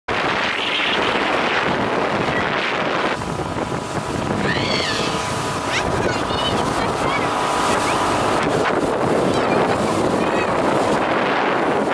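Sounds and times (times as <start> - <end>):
water rushing from motorboat: 0.1 - 11.9
wind buffeting microphone: 0.1 - 11.9.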